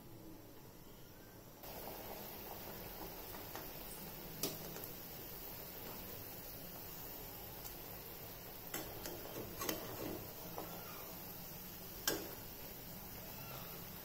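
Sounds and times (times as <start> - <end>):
gravy sizzling: 0.0 - 14.0.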